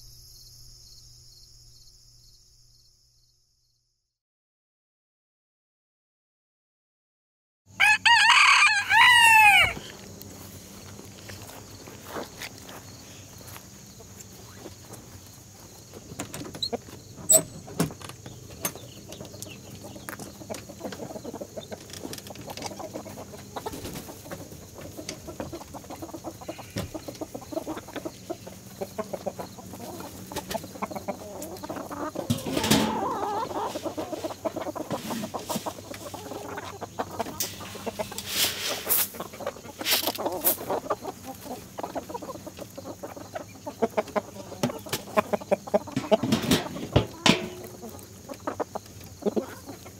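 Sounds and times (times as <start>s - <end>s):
chickens clucking: 8.1s - 49.9s.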